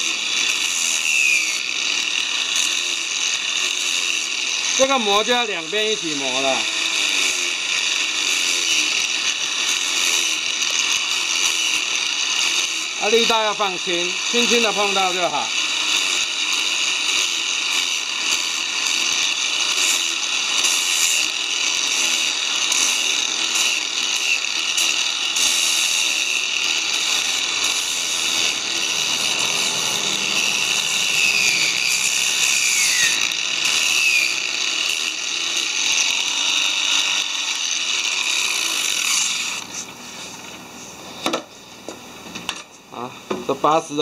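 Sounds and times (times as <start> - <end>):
sanding disc hissing on wood: 0.0 - 41.0
power sander whining: 0.0 - 42.0.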